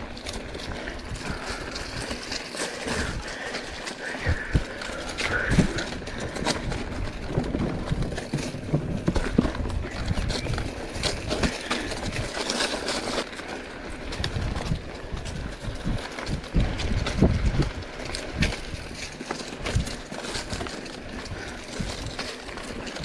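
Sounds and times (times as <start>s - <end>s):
bike rattling over bumps: 0.0s - 23.0s
bike tyres rolling over dirt: 0.0s - 23.0s.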